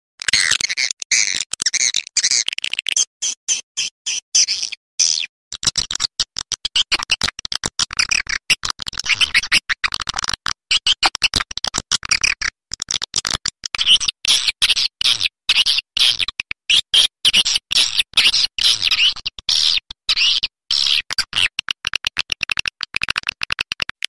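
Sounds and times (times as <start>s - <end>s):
bird twittering chirps and clicks: 0.3s - 24.0s.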